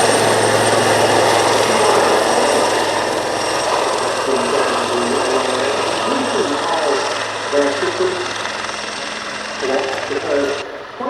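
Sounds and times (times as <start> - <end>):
helicopter running: 0.0 - 11.0.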